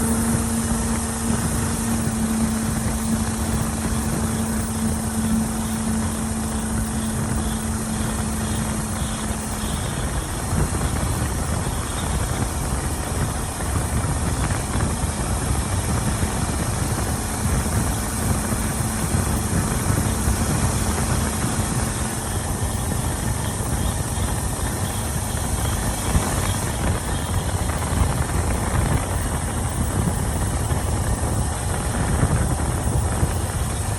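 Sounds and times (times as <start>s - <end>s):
engine idling with rattle: 0.0s - 33.9s
steady hum: 0.0s - 33.9s.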